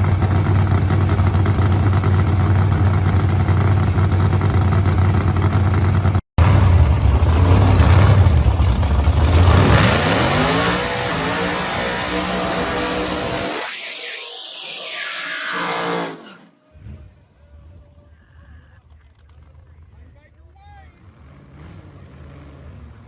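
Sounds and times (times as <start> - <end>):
hot rod engine rumbling: 0.0 - 13.7, 16.8 - 23.0.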